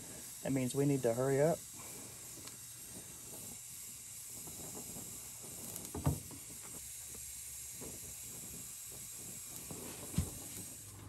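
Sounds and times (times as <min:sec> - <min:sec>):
brazing torch flame hissing: 0:00.0 - 0:11.0.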